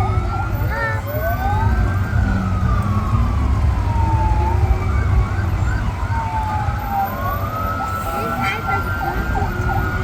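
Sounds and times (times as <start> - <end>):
trucks passing rumble: 0.0 - 10.0
wailing sirens: 0.0 - 10.0.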